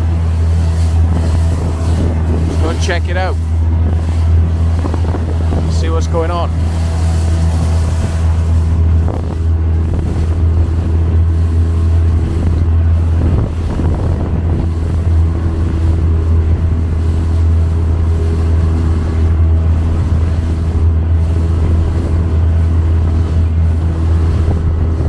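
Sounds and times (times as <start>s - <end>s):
motorboat engine humming: 0.0s - 25.0s.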